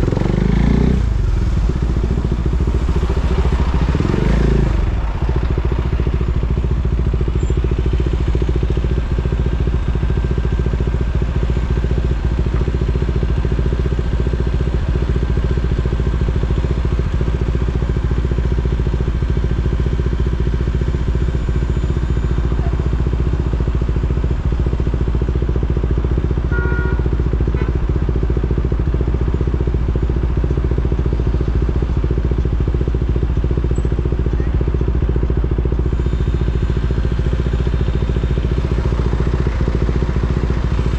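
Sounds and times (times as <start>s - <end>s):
motorcycle engine running at low revs: 0.0s - 40.9s.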